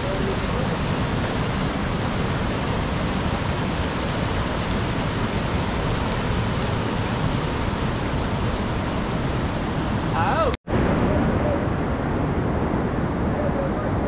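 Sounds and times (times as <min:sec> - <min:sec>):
whitewater river rushing over rocks: 0:00.0 - 0:14.0.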